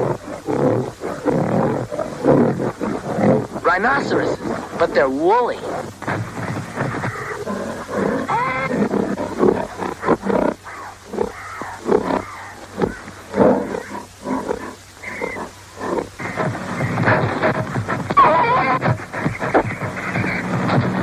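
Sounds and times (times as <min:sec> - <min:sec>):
animals roaring and grunting: 0:00.0 - 0:21.0.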